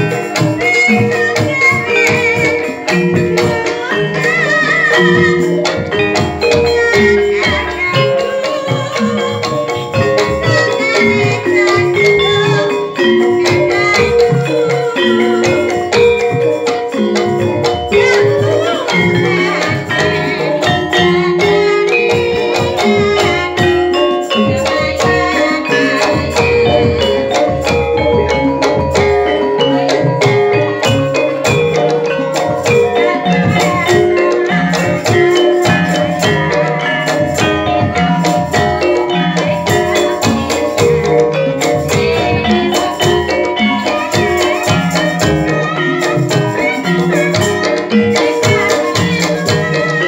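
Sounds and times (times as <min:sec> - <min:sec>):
drum beats: 0:00.0 - 0:50.0
struck mallet instruments ringing: 0:00.0 - 0:50.0.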